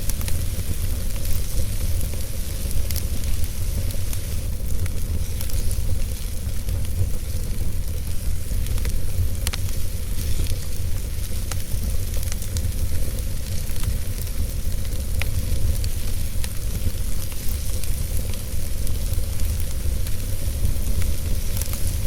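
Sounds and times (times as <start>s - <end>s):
fire crackling and popping: 0.0s - 22.0s
fire rumble and hiss: 0.0s - 22.0s.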